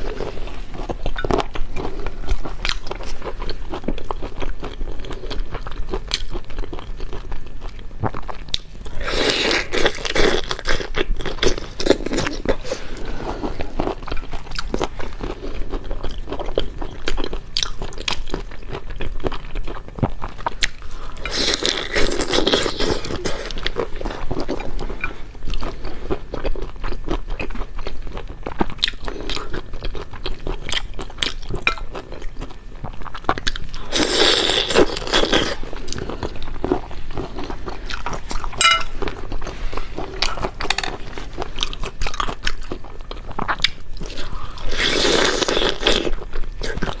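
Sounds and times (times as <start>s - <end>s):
person chewing crunchy food: 0.0s - 47.0s.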